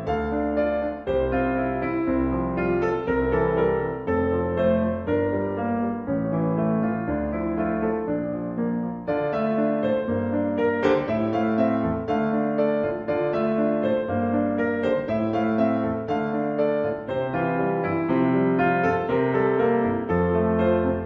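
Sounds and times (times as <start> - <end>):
piano background music: 0.0 - 21.0.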